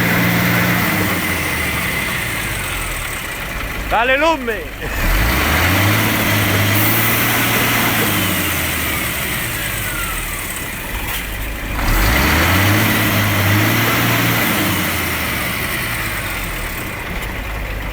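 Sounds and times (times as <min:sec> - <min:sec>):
diesel truck engine revving: 0:00.0 - 0:17.9.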